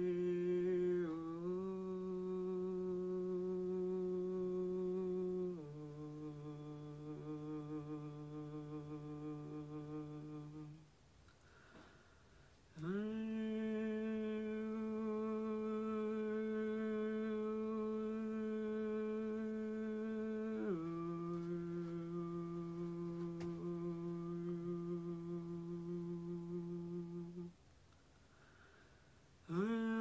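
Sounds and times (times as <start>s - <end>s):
woman humming held tones: 0.0s - 10.9s, 12.7s - 27.6s, 29.4s - 30.0s.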